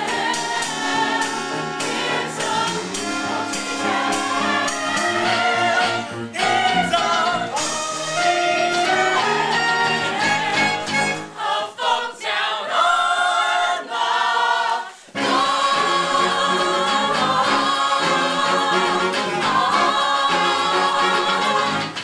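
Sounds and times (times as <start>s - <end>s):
ensemble singing in chorus: 0.0s - 22.0s.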